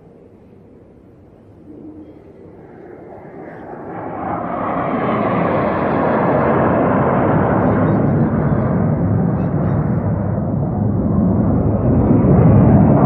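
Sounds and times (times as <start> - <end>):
fighter jet passing low: 0.0 - 13.0.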